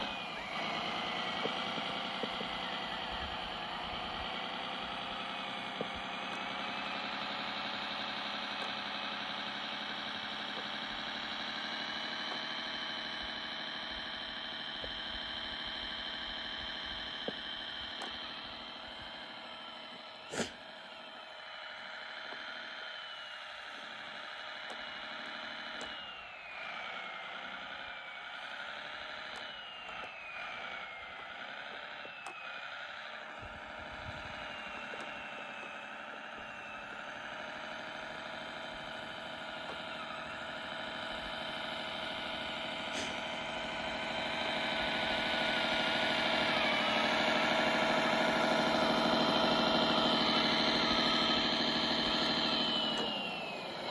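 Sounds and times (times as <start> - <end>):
electric motor and gearbox whining: 0.0 - 53.9.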